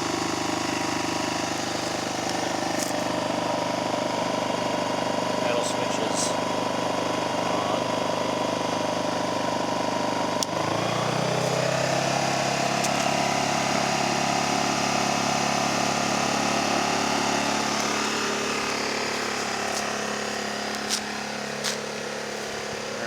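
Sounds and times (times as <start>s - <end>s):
generator engine running: 0.0s - 23.0s.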